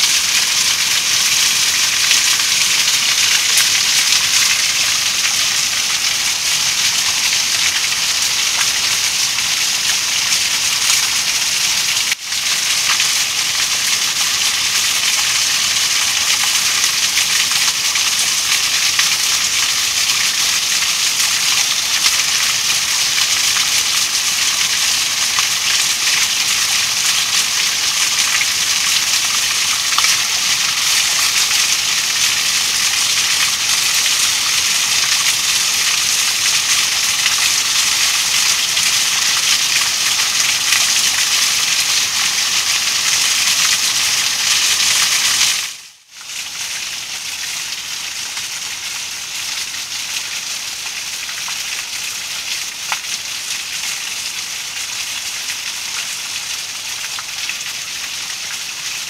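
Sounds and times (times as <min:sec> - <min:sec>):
waterfall splashing onto rocks: 0:00.0 - 0:59.0.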